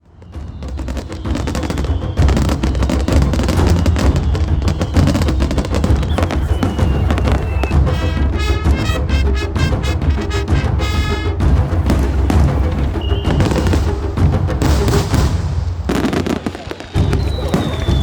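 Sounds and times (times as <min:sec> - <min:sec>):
background music: 0:00.0 - 0:18.0
fireworks bursting and crackling: 0:00.0 - 0:18.0.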